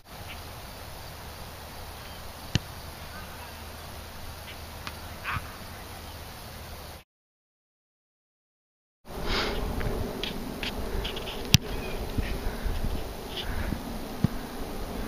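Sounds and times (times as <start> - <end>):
open-air background noise: 0.0 - 7.0, 9.1 - 15.0.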